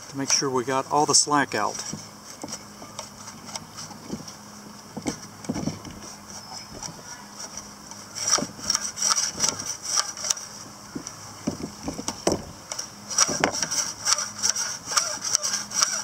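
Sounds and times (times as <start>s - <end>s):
recoil pulley clicks: 0.0s - 4.4s, 5.0s - 16.0s
starter rope pulled and rewinding: 0.0s - 16.0s.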